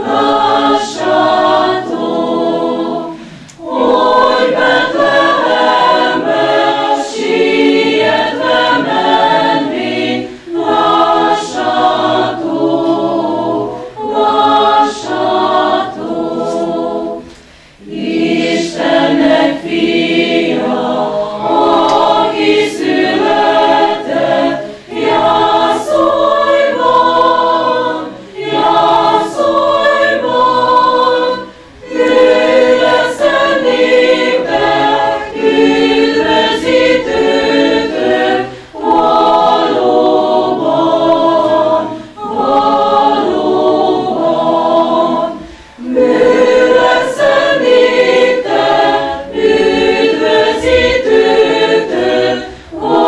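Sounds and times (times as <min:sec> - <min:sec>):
church choir singing: 0:00.0 - 0:53.0.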